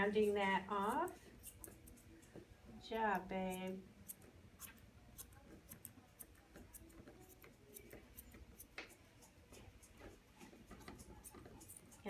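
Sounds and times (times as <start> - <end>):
grooming scissors snipping hair: 0.0 - 12.0.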